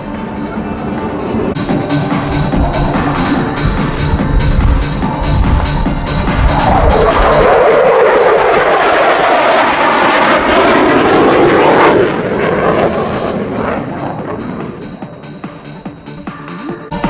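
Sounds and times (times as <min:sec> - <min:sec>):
fighter jet passing: 0:00.0 - 0:16.9.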